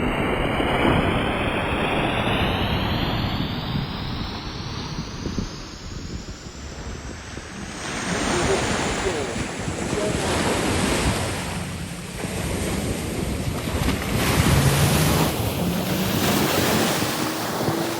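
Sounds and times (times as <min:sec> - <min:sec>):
waves breaking on shore: 0:00.0 - 0:17.9
wind buffeting microphone: 0:00.0 - 0:17.9.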